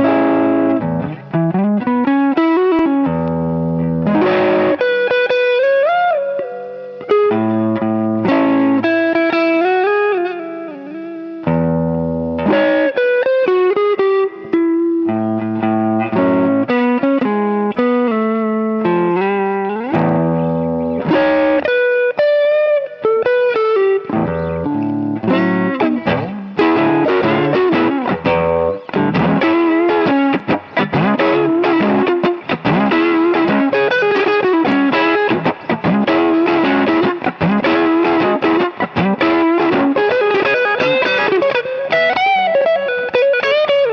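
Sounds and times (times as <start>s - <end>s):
overdriven electric guitar blues licks: 0.0s - 43.9s.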